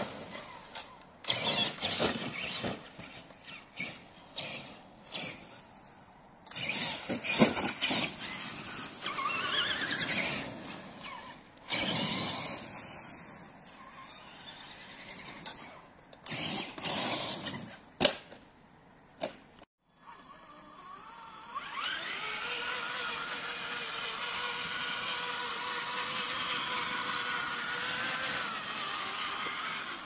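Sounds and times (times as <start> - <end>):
rc truck electric motor whining: 0.0 - 5.7, 6.4 - 17.8, 19.9 - 30.0.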